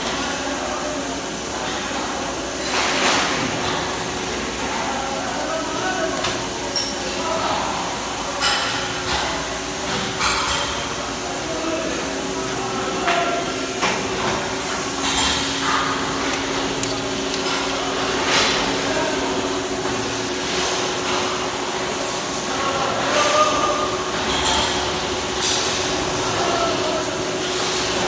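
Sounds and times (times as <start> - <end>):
mechanical hum and hiss: 0.0 - 28.0.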